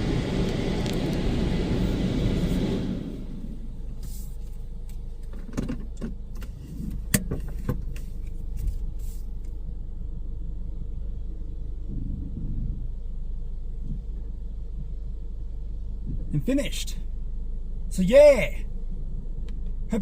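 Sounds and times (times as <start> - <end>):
car cabin engine rumble: 0.0 - 20.0.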